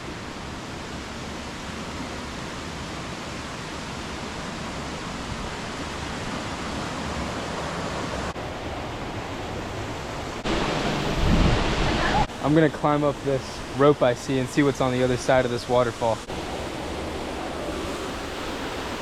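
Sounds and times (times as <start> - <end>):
waterfall and river rushing: 0.0 - 19.0.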